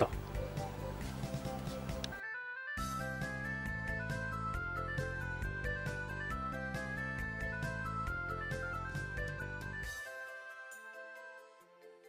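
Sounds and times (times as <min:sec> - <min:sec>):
light melody over steady beat: 0:00.0 - 0:12.0.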